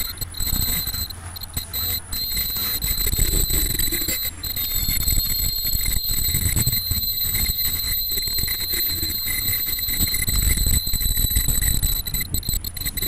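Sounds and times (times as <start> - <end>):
machine whine: 0.0 - 13.0
mechanical clatter and rumble: 0.0 - 13.0.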